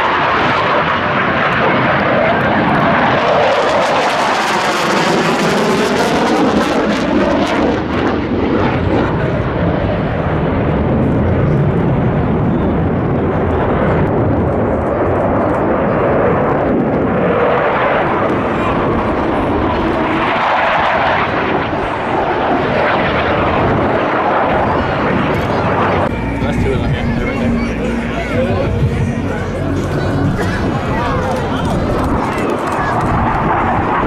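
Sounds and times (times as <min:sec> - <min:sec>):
fighter jets passing by: 0:00.0 - 0:34.0.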